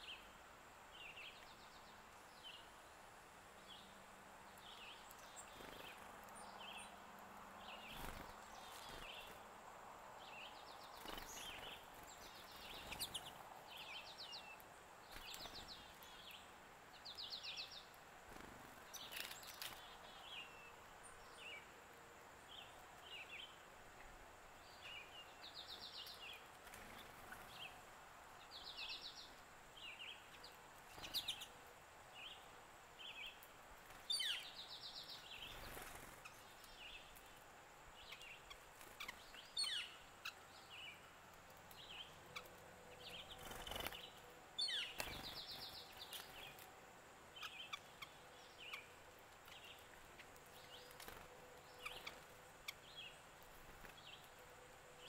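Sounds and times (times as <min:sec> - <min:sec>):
faint outdoor hiss: 0:00.0 - 0:55.0
songbirds chirping: 0:00.0 - 0:55.0.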